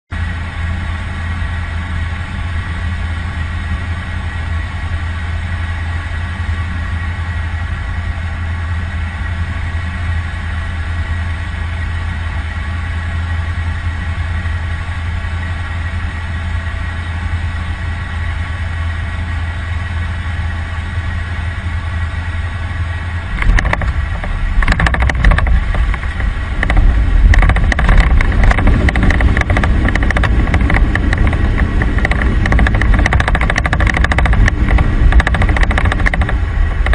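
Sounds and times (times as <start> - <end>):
airplane engine droning: 0.1 - 36.9.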